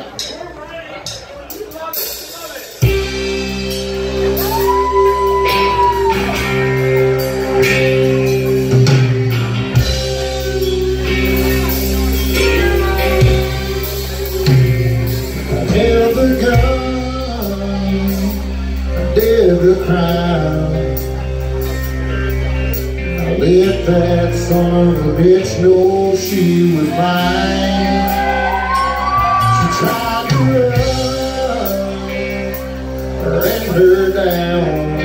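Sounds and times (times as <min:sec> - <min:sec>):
country band playing: 0:00.0 - 0:35.0
guitars: 0:00.0 - 0:35.0.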